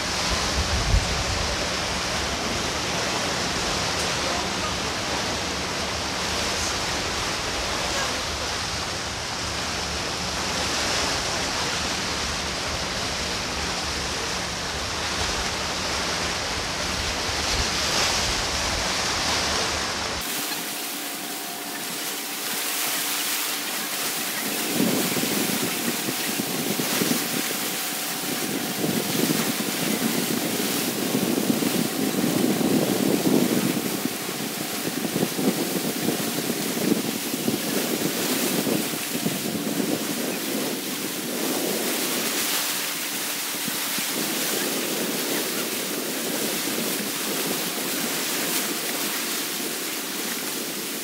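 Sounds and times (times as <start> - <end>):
waves washing against rocks: 0.0 - 51.0
wind rumbling on microphone: 0.0 - 51.0.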